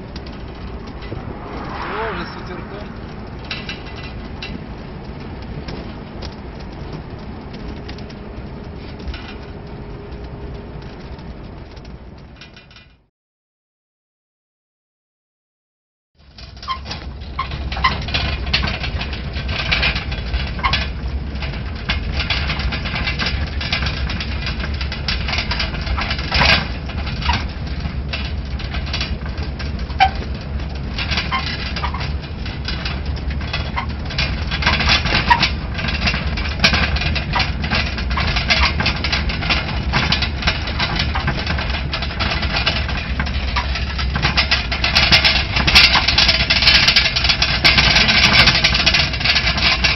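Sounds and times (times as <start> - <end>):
vehicle body rattling: 0.0 - 13.1, 16.2 - 49.9
vehicle engine rumbling: 0.0 - 13.1, 16.2 - 49.9.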